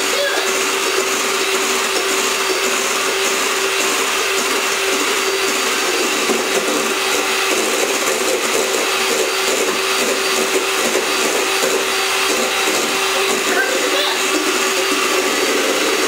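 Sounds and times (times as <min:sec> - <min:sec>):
beaters whipping in metal bowl: 0:00.0 - 0:16.0
electric hand mixer running: 0:00.0 - 0:16.0.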